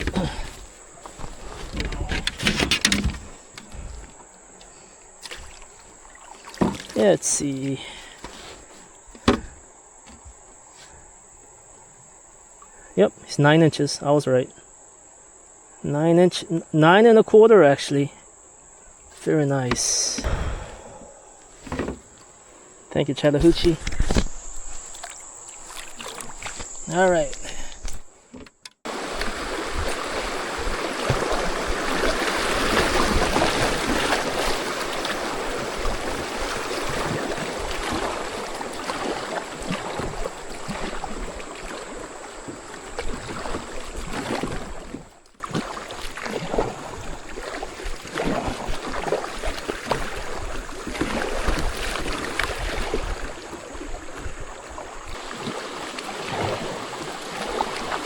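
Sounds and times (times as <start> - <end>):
rushing creek water: 0.0 - 11.2, 21.5 - 28.2, 28.8 - 58.0.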